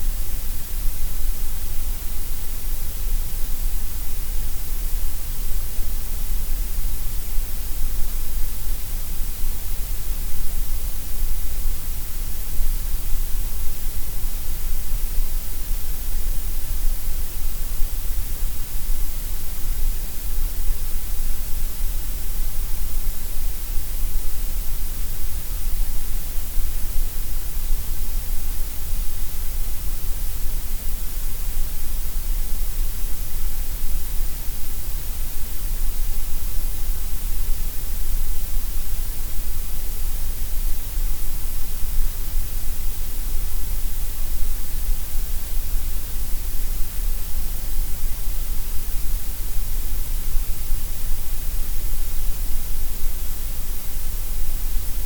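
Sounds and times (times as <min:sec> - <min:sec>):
synthetic grey noise hiss: 0:00.0 - 0:55.0.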